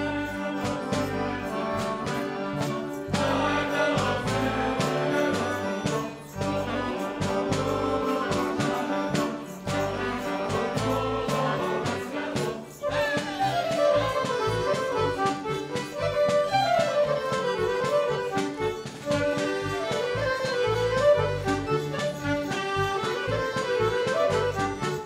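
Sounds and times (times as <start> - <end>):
folk dance music ensemble: 0.0 - 25.0.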